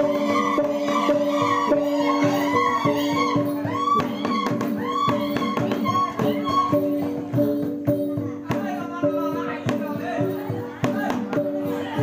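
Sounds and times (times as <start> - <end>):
fast drum strikes: 0.0 - 12.0.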